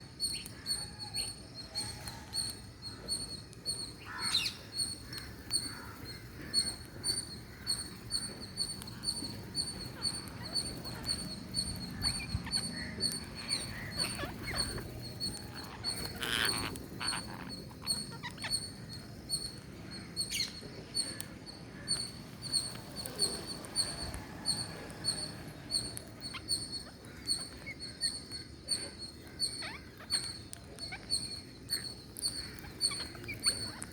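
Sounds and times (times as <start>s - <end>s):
parrots peeping: 0.1s - 33.9s
sharp parrot calls: 4.0s - 19.6s, 21.9s - 33.9s.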